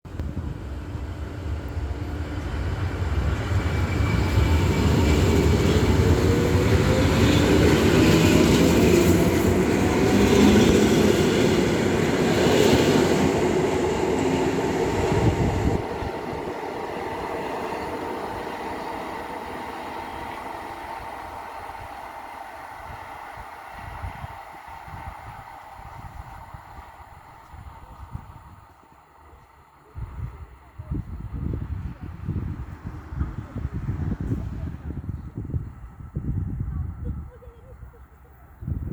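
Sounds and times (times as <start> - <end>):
wheels rumbling on rails: 0.1 - 38.9.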